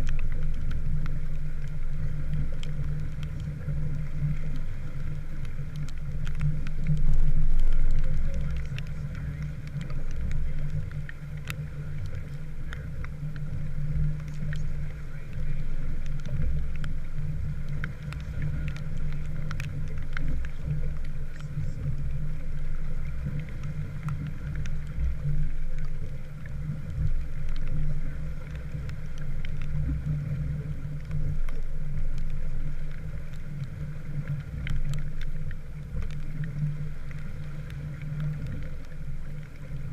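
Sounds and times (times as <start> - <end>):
faint ticks: 0.0 - 39.9
low rumble aboard sailboat: 0.0 - 39.9.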